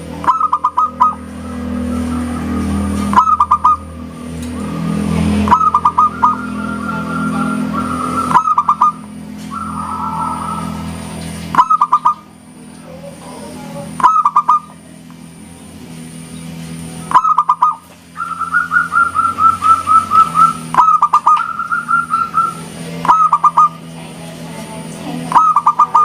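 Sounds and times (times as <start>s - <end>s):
dove cooing: 0.0s - 14.9s, 17.0s - 24.2s, 24.8s - 26.0s.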